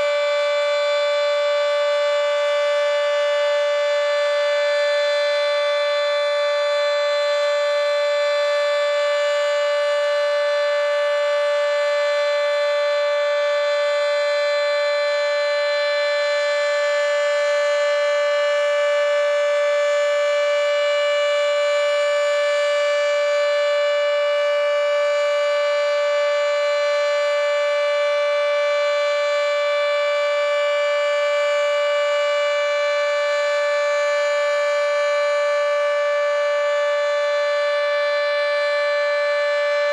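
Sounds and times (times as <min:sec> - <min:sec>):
dual-tone warning siren: 0:00.0 - 0:39.9.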